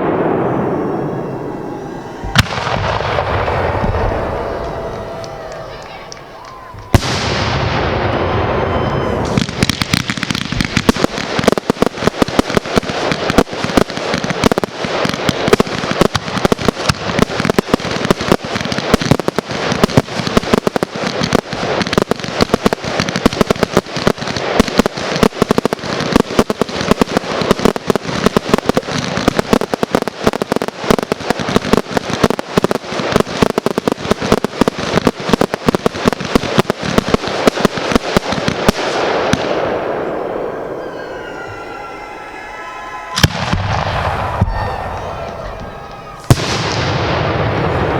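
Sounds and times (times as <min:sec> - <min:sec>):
fireworks hissing rush: 0:00.0 - 0:20.0, 0:26.5 - 0:47.9
fireworks bangs and crackles: 0:00.0 - 0:47.9.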